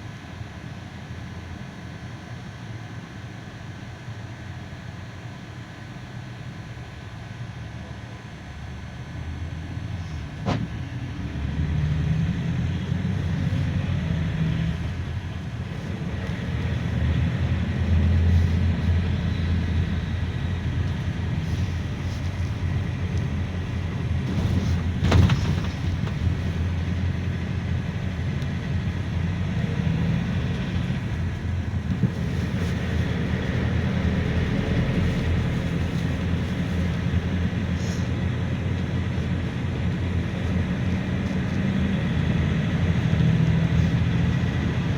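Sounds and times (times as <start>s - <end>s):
minibus engine and road drone: 0.0s - 44.9s.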